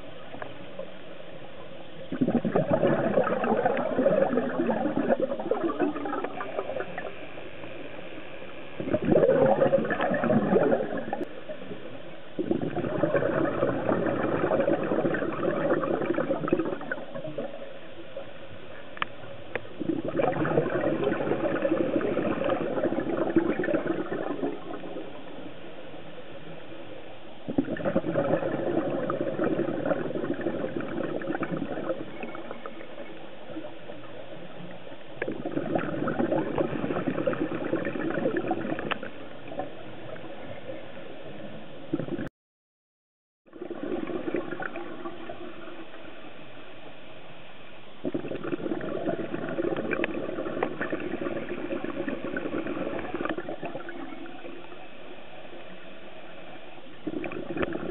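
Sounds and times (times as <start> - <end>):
exhaled bubbles underwater: 1.9 - 42.3, 43.5 - 46.8, 48.0 - 57.9.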